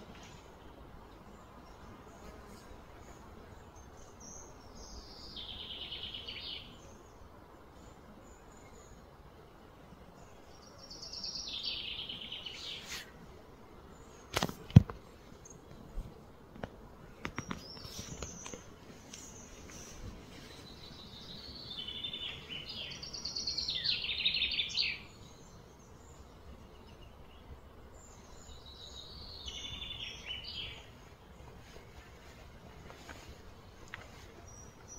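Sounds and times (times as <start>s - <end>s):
songbird singing: 0.0s - 13.1s, 17.0s - 34.9s.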